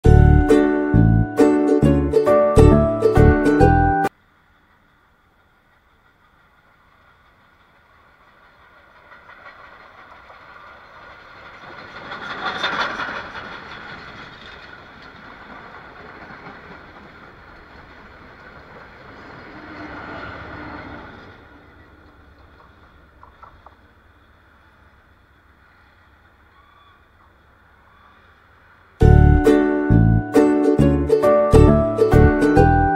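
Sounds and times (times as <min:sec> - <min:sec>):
diesel locomotive passing: 0:00.0 - 0:32.9
train rumbling past: 0:00.0 - 0:32.9.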